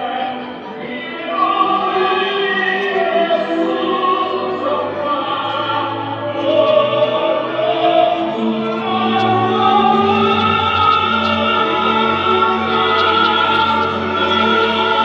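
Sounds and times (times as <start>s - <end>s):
orchestral music with choir singing: 0.0s - 15.0s.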